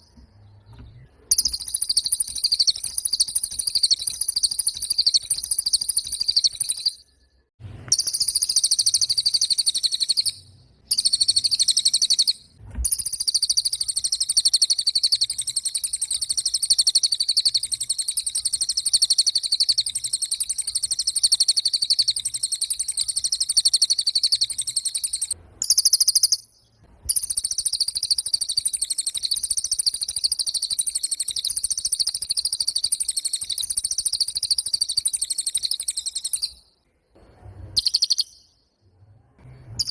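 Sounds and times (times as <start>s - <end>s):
songbird high-pitched trill: 0.0s - 36.8s, 37.7s - 38.6s.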